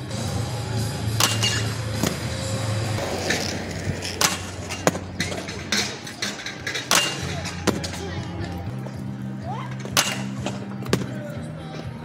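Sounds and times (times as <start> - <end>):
wheels rolling on concrete: 0.0 - 12.0
inline skates grinding metal rail: 0.1 - 11.0.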